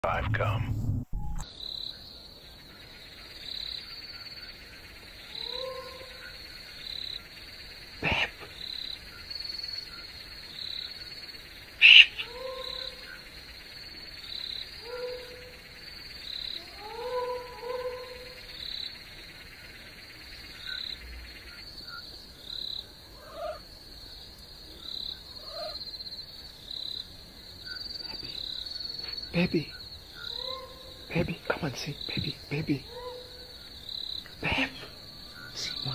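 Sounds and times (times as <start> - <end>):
constant high hiss: 0.0 - 35.9
night insects chirping: 1.4 - 35.9.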